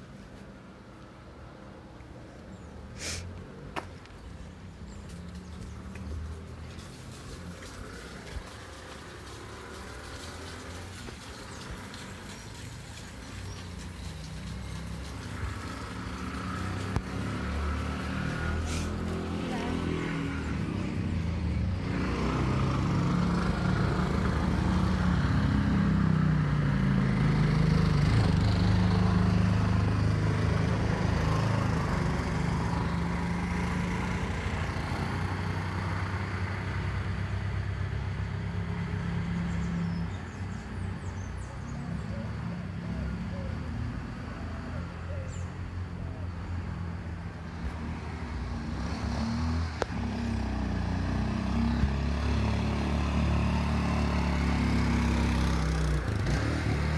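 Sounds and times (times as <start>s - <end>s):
street noise: 0.0s - 56.9s.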